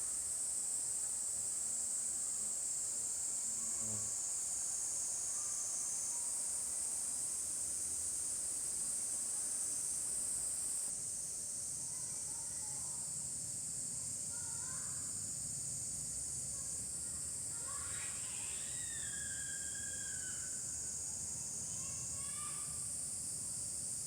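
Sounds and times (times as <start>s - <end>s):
insect chorus drone: 0.0s - 24.0s.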